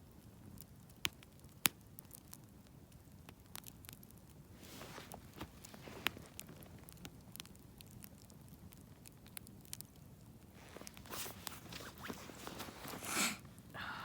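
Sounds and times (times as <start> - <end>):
campfire crackling and popping: 0.0 - 13.8.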